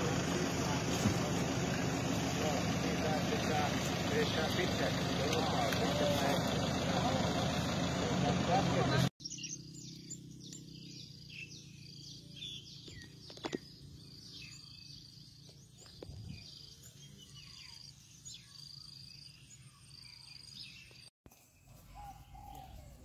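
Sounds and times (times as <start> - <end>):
birds trilling and chirping: 0.0 - 23.0.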